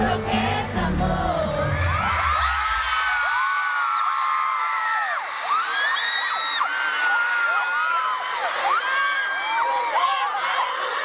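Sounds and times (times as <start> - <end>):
crowd screaming and cheering: 0.0 - 11.0.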